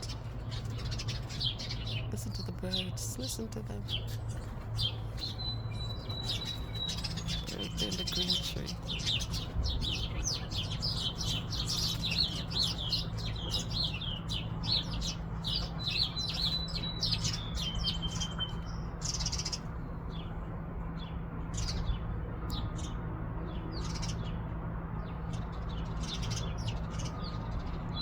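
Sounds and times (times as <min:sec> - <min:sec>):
small songbirds chirping: 0:00.0 - 0:28.0.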